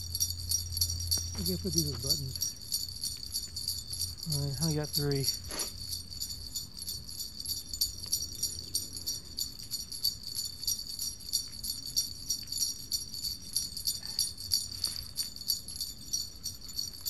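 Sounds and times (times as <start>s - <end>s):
jingle bells ringing: 0.0s - 17.0s.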